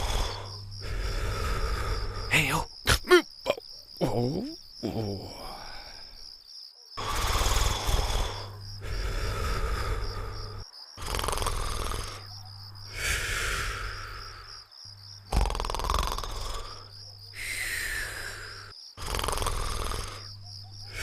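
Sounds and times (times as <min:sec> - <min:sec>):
cartoon snoring: 0:00.0 - 0:05.8, 0:07.0 - 0:14.5, 0:15.2 - 0:21.0
crickets chirping: 0:00.0 - 0:21.0.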